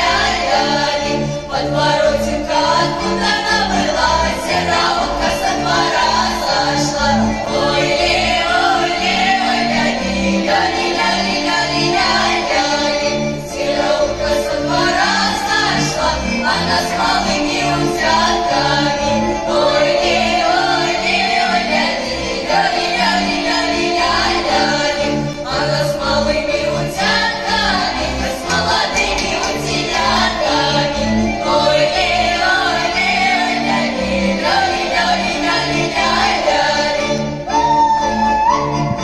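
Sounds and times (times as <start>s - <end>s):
girls' choir singing folk song: 0.0s - 37.7s
folk instrument orchestra: 0.0s - 39.0s.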